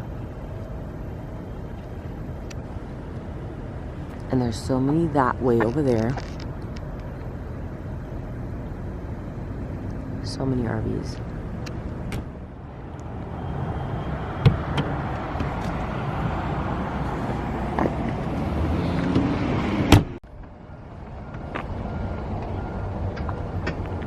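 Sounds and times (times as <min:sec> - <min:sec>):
pickup road and engine rumble: 0:00.0 - 0:24.0.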